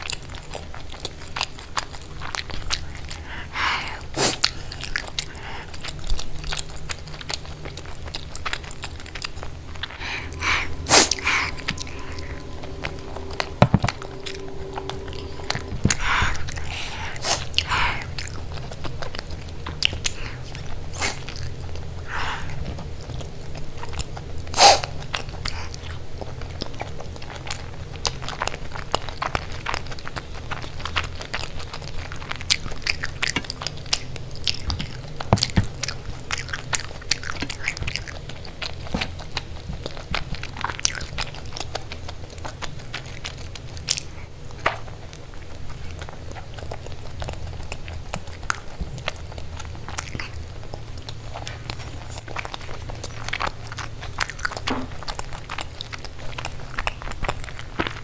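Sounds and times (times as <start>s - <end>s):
crunchy food chewing: 0.0s - 58.0s.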